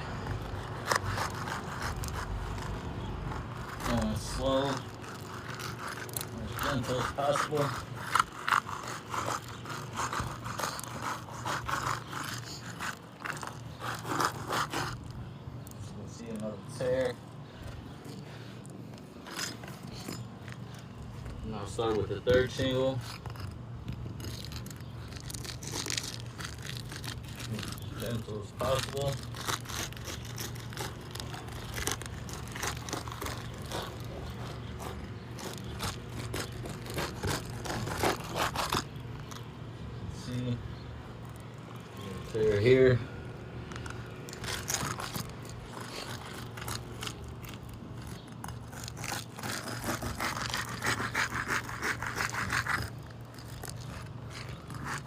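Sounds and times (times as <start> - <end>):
shingles scraping and crackling: 0.0 - 39.5, 43.6 - 55.0.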